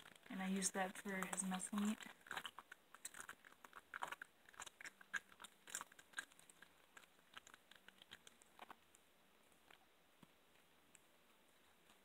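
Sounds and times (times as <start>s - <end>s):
cat crunching bone: 0.0s - 9.9s.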